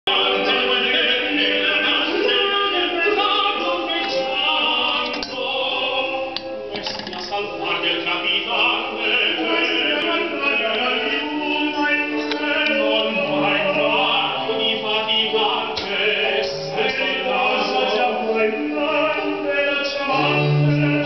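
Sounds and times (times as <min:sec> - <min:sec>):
opera singing with accompaniment: 0:00.1 - 0:21.0.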